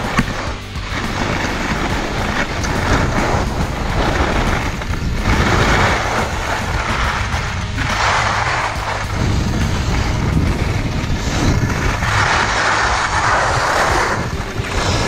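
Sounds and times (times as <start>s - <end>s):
skis scraping on packed snow: 0.0s - 15.0s
wind rushing over microphone: 0.0s - 15.0s.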